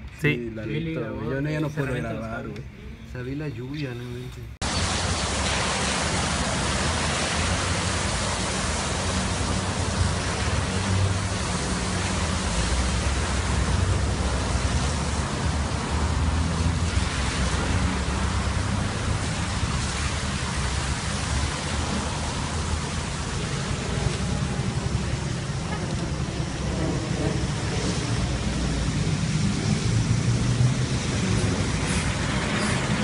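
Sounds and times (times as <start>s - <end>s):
tyres splashing through water: 4.6s - 33.0s
wind rumble on microphone: 4.6s - 33.0s.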